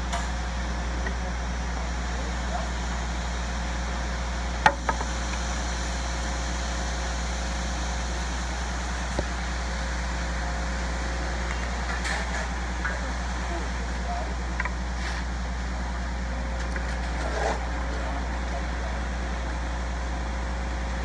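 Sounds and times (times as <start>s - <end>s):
diesel truck engine droning: 0.0s - 21.0s.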